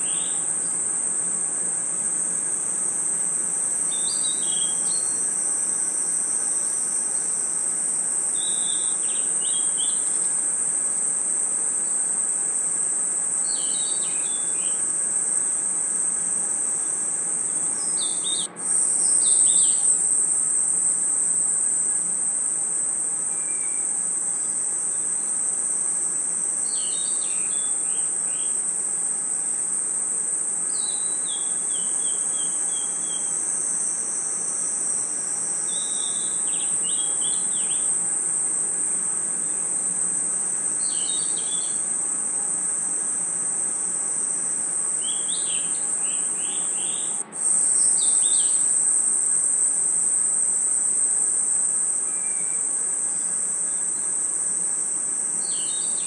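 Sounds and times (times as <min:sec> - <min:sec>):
chorus of crickets and insects: 0:00.0 - 0:56.0
lower chirps: 0:00.0 - 0:56.0.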